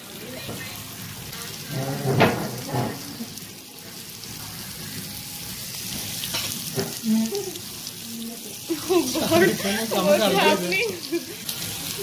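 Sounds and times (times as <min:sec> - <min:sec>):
butter sizzling on hot plate: 0:00.0 - 0:12.0.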